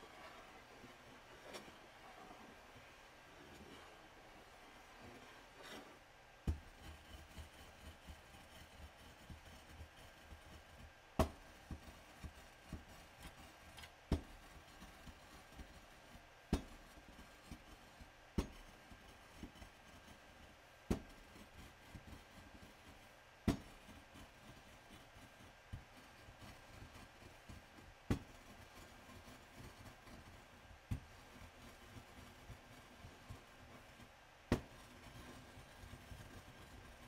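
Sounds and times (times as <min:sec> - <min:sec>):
pestle scraping powder on glass: 0:00.0 - 0:30.3.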